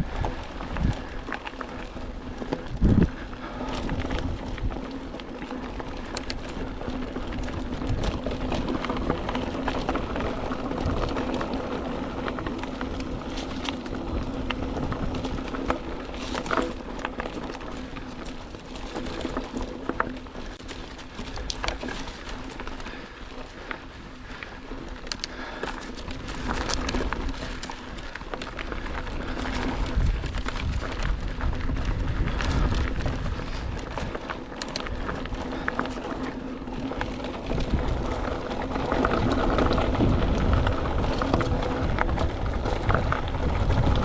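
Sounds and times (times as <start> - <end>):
bike rattling: 0.0 - 44.0
bike tyre rumble: 0.0 - 44.0.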